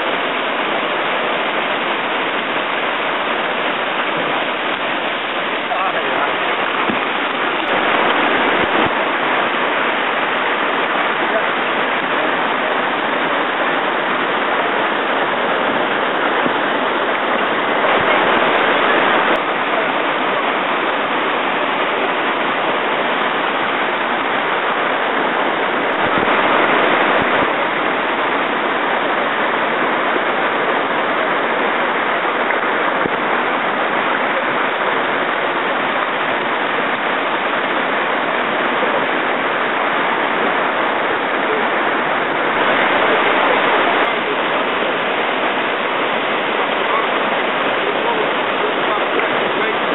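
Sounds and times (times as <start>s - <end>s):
river rapids rushing: 0.0s - 49.9s.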